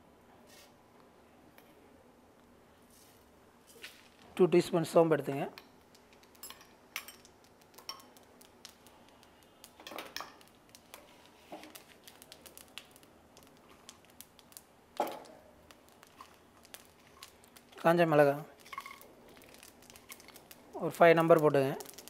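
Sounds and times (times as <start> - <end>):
seeds crackling in hot oil: 3.6 - 22.0.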